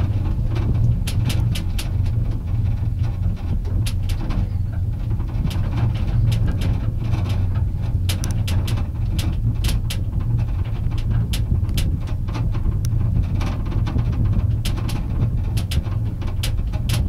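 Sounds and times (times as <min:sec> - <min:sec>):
gondola cabin rumble and hum: 0:00.0 - 0:17.0
light clicks and rattles: 0:00.0 - 0:17.0.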